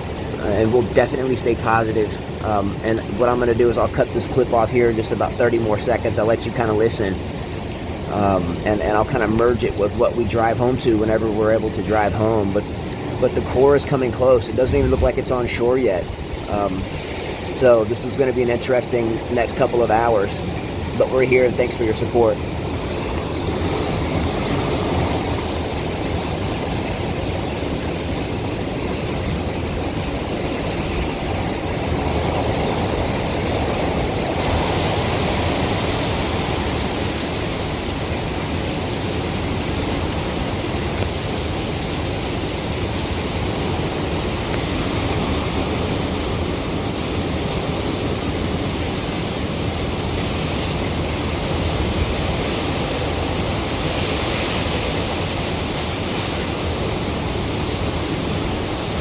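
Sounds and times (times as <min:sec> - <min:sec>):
hurricane wind rushing: 0:00.0 - 0:59.0.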